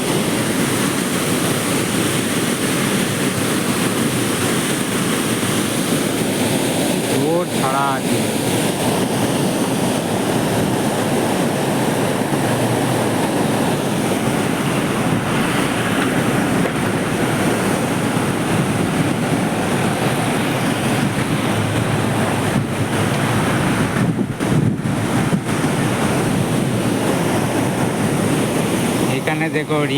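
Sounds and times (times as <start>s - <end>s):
water rushing through gates: 0.0s - 29.9s.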